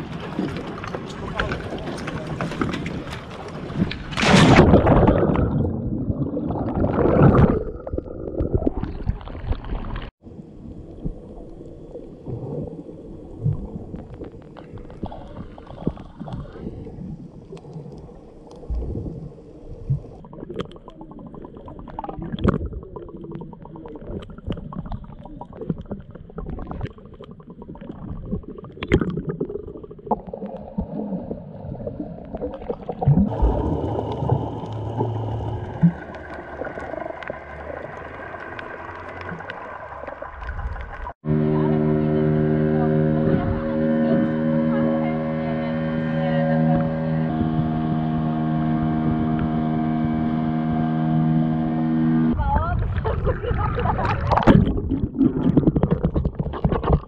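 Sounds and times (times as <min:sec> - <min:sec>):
bubbling churning water underwater: 0:00.0 - 0:41.3, 0:52.3 - 0:57.0
muffled low underwater wash: 0:00.0 - 0:50.8, 0:52.2 - 0:57.0.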